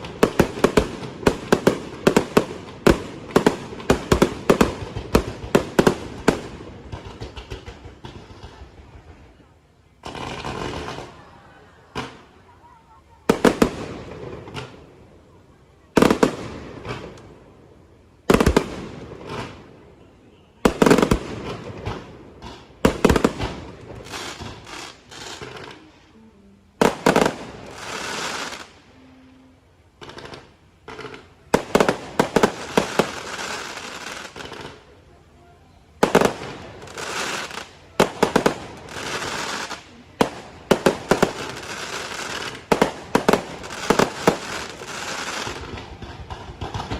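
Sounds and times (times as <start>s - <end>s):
firework crackling: 0.0s - 46.9s.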